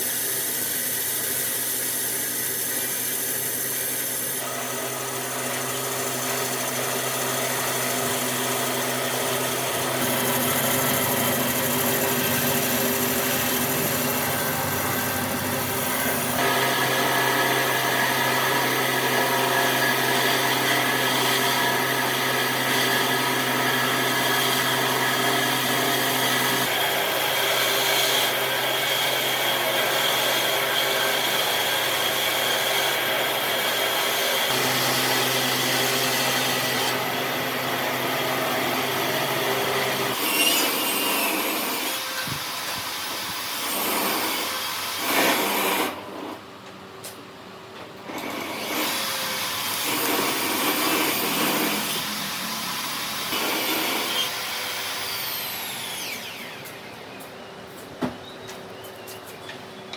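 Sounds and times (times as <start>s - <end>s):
electric power tool working wood: 0.0s - 46.1s, 48.1s - 57.0s.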